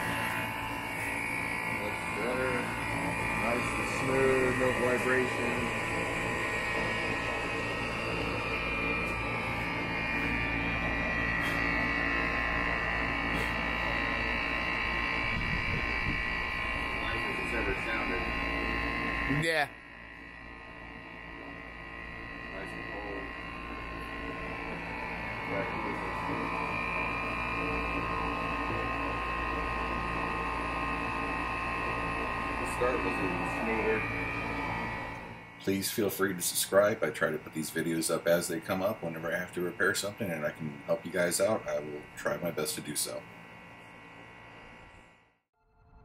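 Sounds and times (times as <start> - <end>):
air conditioner unit humming: 0.0 - 45.1.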